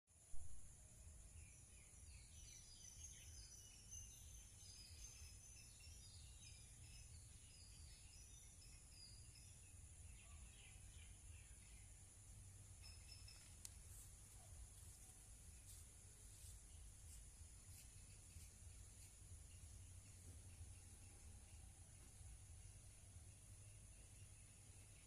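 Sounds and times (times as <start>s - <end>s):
small birds chirping: 1.0s - 25.0s.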